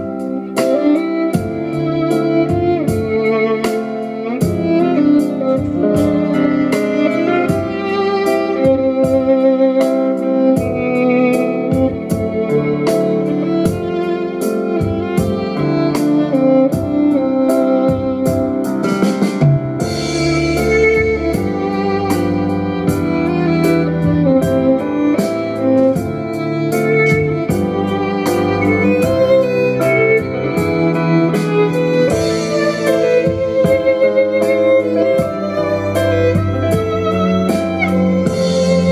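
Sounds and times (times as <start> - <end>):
contrabass: 0.0 - 38.9
percussive beat: 0.0 - 38.9
violin melody: 0.0 - 38.9.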